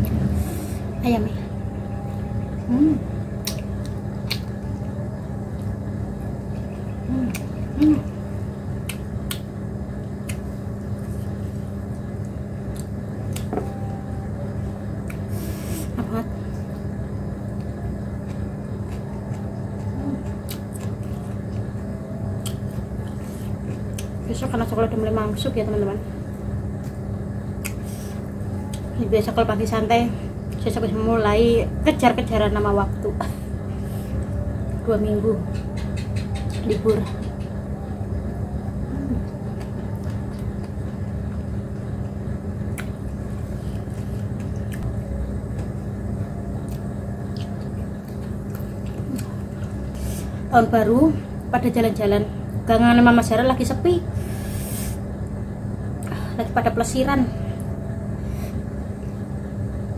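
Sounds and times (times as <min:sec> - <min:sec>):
constant pitched tone: 0:00.0 - 0:54.4
low background rumble with hum: 0:00.0 - 0:59.9.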